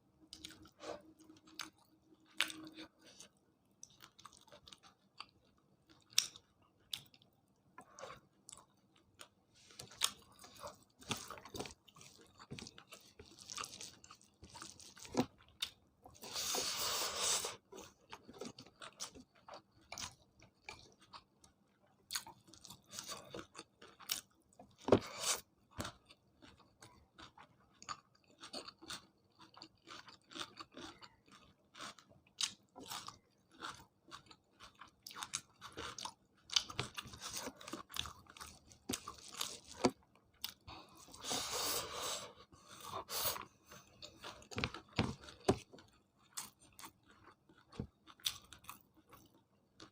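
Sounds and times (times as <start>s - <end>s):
person chewing food: 0.3s - 49.9s.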